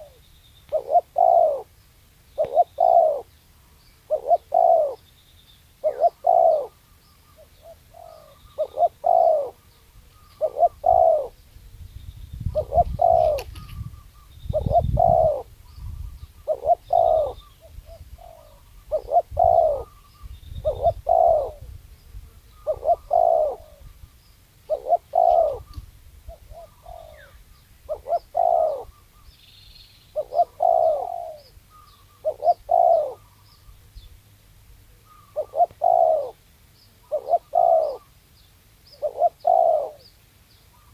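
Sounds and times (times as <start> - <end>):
dove cooing: 0.0 - 5.1, 5.8 - 11.5, 12.4 - 29.4, 30.1 - 34.1, 34.8 - 36.4, 37.0 - 38.2, 38.9 - 40.1
small birds chirping: 0.0 - 40.9.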